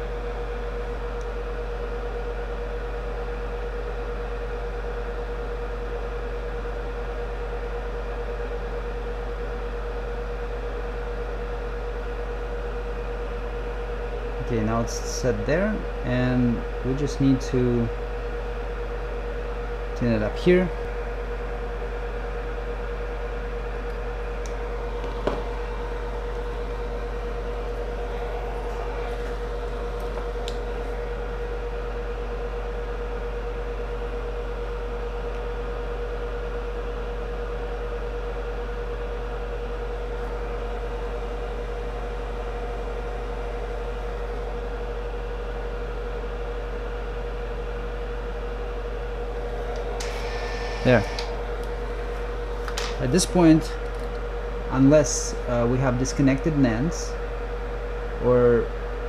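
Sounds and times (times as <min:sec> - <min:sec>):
electrical hum of equipment: 0:00.0 - 0:59.0.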